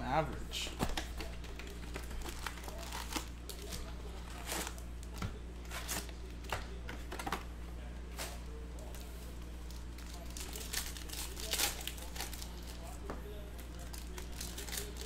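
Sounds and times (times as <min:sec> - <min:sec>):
steady low hum: 0:00.0 - 0:15.0
card packs clicking and crinkling: 0:00.7 - 0:07.5, 0:08.2 - 0:13.0, 0:13.6 - 0:15.0.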